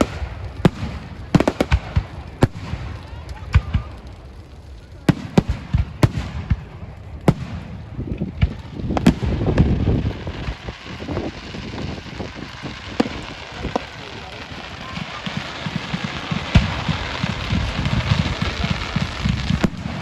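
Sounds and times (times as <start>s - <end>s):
fireworks crackle and rumble: 0.0s - 20.0s.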